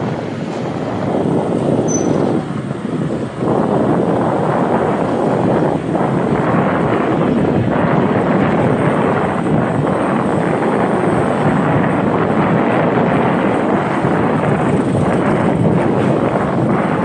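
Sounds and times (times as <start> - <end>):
motorcycle road noise: 0.0 - 17.0
wind buffeting microphone: 0.0 - 17.0
wind rushing: 0.0 - 17.0.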